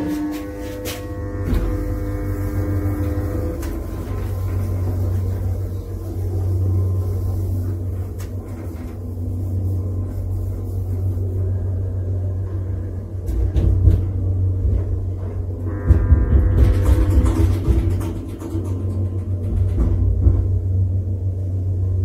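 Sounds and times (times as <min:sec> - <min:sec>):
lift car rumbling: 0:00.0 - 0:22.0.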